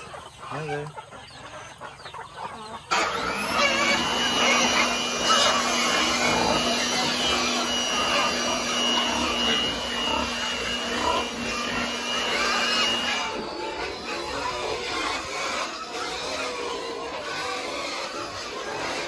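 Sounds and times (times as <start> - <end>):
handheld electric blower running: 2.9 - 19.0.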